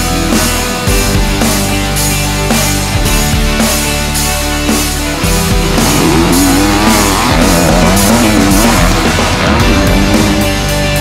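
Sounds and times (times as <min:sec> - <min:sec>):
heavy rock music: 0:00.0 - 0:11.0.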